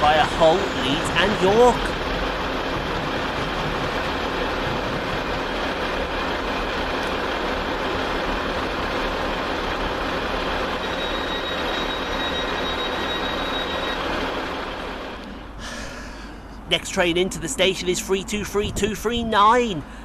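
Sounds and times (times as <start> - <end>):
train passing at speed: 0.0 - 18.4.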